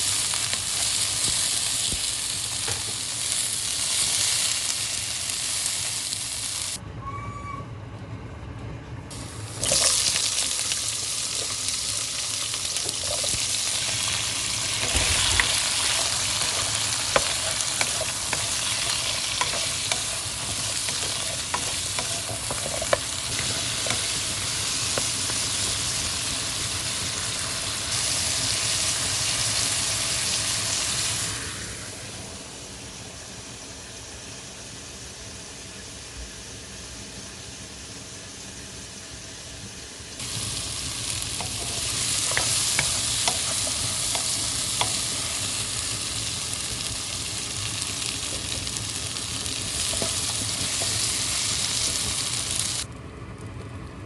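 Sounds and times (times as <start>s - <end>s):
food sizzling in a pan: 0.0s - 6.8s, 9.1s - 34.6s, 40.2s - 52.9s.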